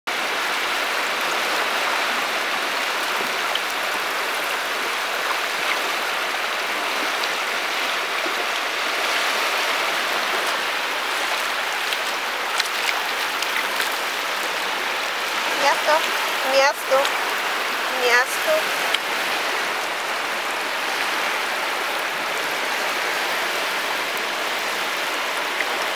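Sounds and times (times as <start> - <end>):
seawater washing over sand: 0.2 - 25.9.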